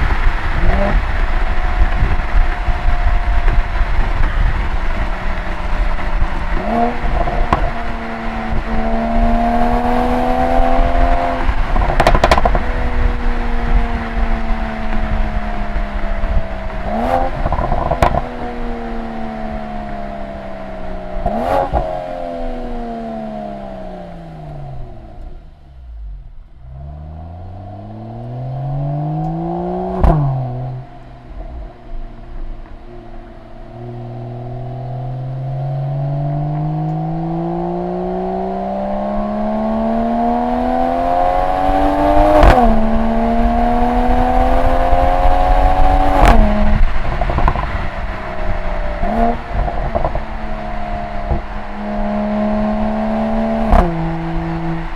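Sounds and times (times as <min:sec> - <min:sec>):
car exhaust revving: 0:00.0 - 0:54.9
gearshift exhaust crack: 0:00.0 - 0:54.9.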